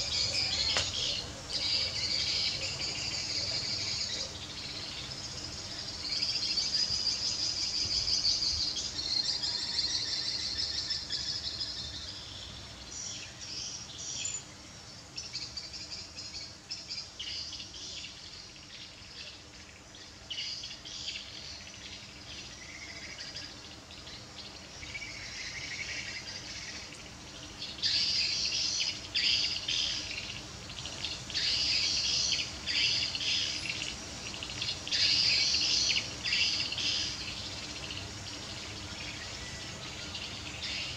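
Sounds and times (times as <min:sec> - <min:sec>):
birds chirping: 0:00.0 - 0:40.9
insects chirring: 0:00.0 - 0:40.9.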